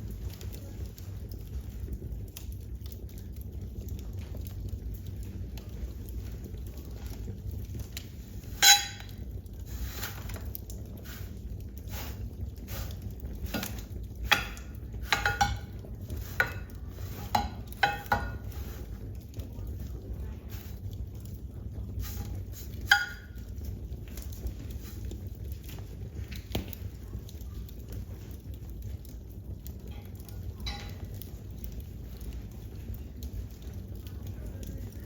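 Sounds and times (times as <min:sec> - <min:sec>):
fire popping: 0:00.0 - 0:35.0
wood fire crackling: 0:00.0 - 0:35.0.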